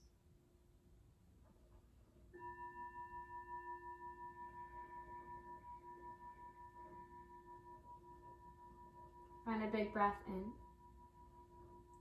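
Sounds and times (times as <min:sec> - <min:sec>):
singing bowl ringing: 0:02.3 - 0:12.0.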